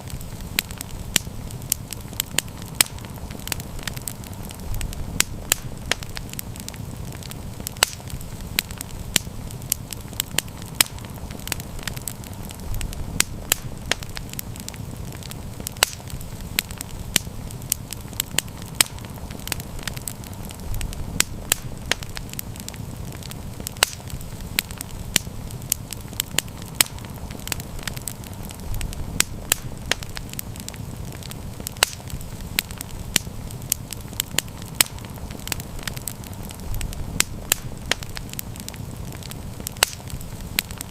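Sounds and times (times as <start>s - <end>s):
sharp pops of fire: 0.0s - 40.9s
wood fire crackling: 0.0s - 40.9s.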